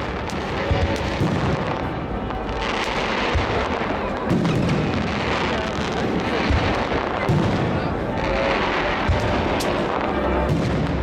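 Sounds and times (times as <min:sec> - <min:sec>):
dense continuous din: 0:00.0 - 0:11.0.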